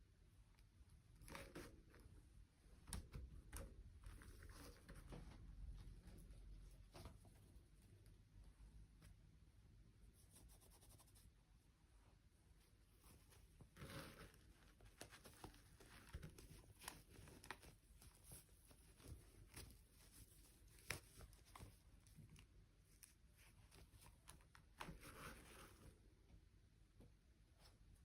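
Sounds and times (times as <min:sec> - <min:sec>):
soft rustling: 0:01.1 - 0:09.4, 0:10.0 - 0:28.0.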